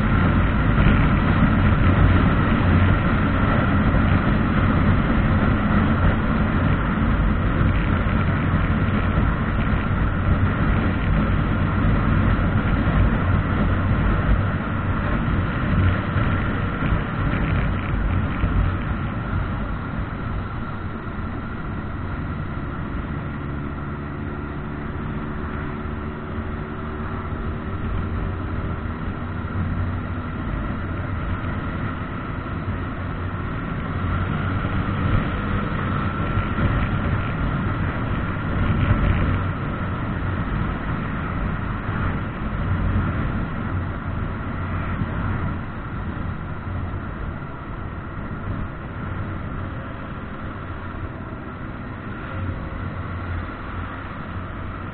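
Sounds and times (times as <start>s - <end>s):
motorcycle engine running: 0.0s - 54.9s
road noise: 0.0s - 54.9s
wind noise: 0.0s - 54.9s.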